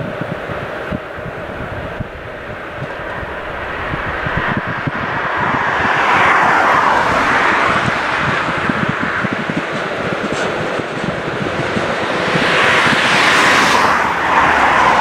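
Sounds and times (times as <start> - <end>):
electric locomotive passing: 0.5 - 15.0.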